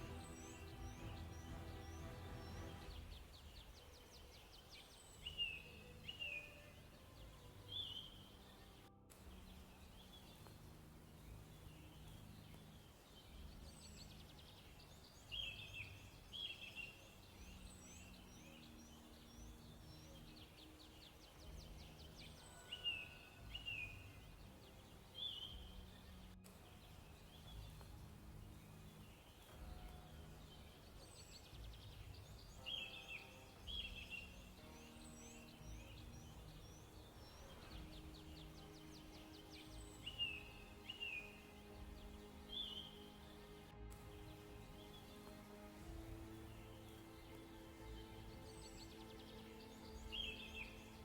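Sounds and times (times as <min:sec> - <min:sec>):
faint birds chirping and trilling: 0:00.0 - 0:51.0
soft low background music: 0:00.0 - 0:51.0.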